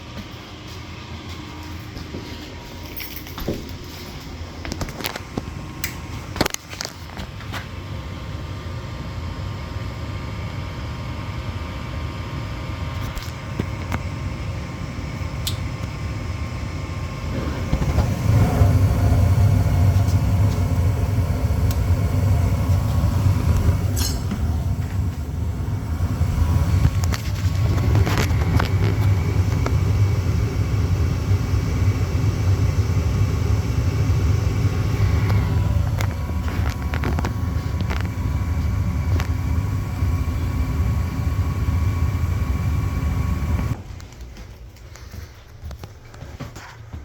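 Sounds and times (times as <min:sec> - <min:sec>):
furnace motor hum: 0:00.0 - 0:47.0.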